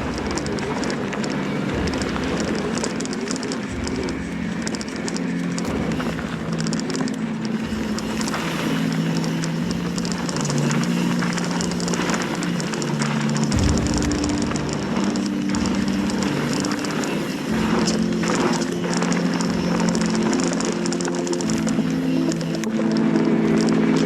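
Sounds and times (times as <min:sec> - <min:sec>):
bike tyre and frame rattle: 0:00.0 - 0:24.0
steady low hum: 0:00.0 - 0:24.0.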